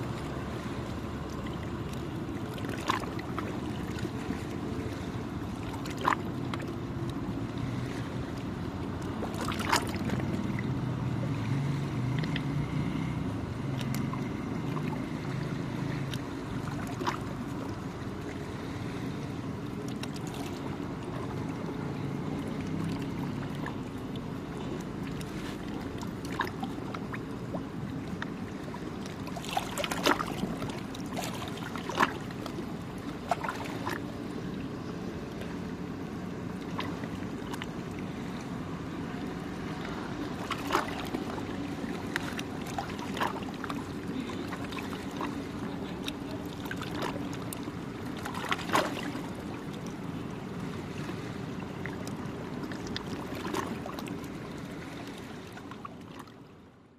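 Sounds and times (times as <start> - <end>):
sharp water splashes: 0.0 - 18.5, 19.5 - 56.5
small waves lapping at shore: 0.0 - 56.9.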